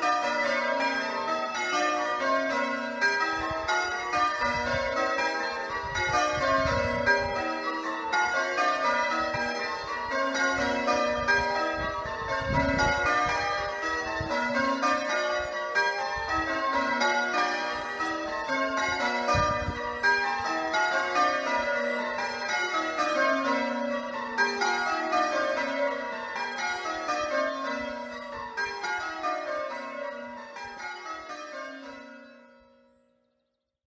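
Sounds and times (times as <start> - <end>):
church bells change ringing: 0.0 - 33.2.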